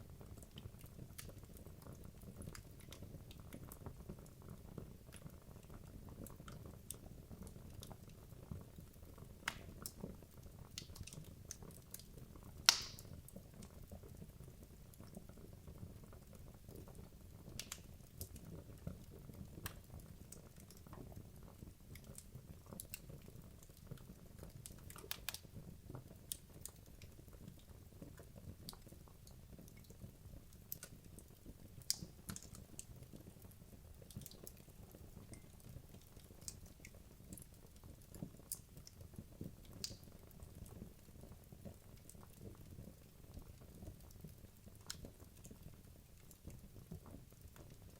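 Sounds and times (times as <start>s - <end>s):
wood fire crackles and pops: 0.0s - 47.9s.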